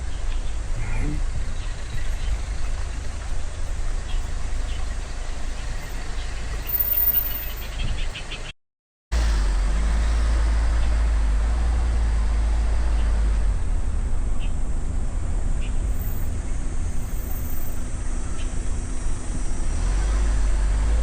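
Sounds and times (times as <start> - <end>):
motor vehicle rumble: 0.0 - 8.5, 9.1 - 21.0.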